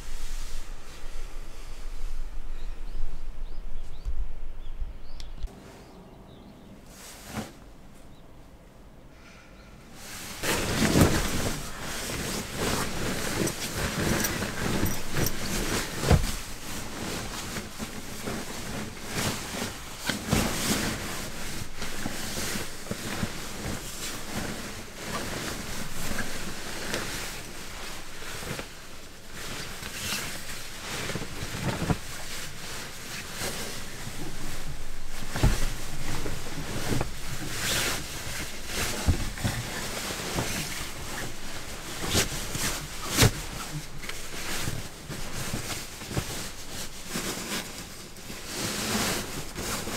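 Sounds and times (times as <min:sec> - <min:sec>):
sleeping bag rustling: 0:00.0 - 0:04.0, 0:06.9 - 0:08.1, 0:10.0 - 0:49.9.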